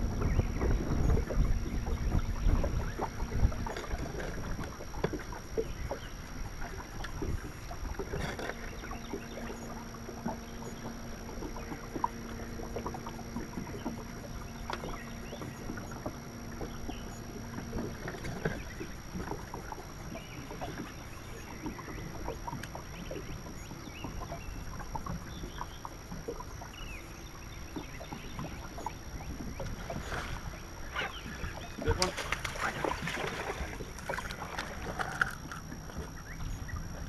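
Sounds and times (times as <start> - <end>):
water slapping against hull: 0.0 - 37.0.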